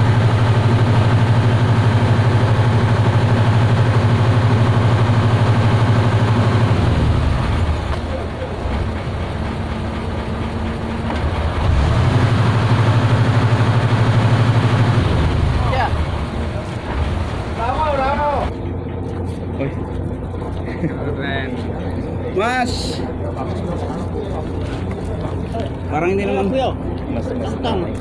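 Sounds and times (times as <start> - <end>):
boat engine throbbing: 0.0 - 28.0.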